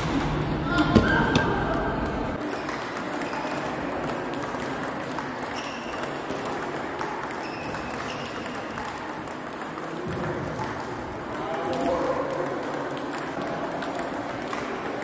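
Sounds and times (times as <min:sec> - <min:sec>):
sports hall background noise: 0:00.0 - 0:15.0
table tennis ball clicking: 0:02.1 - 0:15.0.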